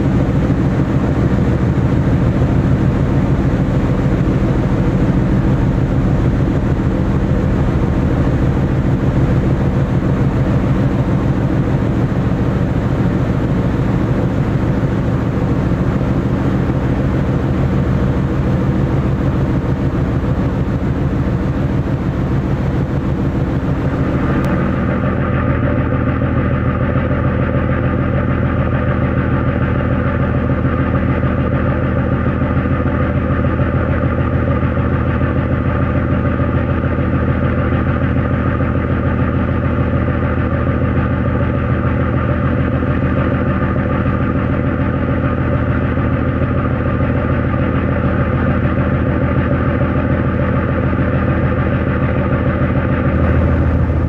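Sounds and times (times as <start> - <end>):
ferry engines droning: 0.0 - 54.0.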